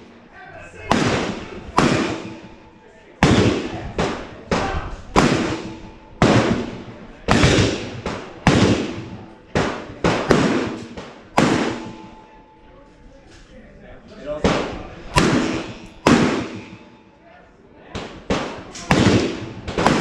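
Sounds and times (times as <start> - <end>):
rifle shots echoing: 0.8 - 12.4, 14.4 - 17.0, 18.0 - 20.0.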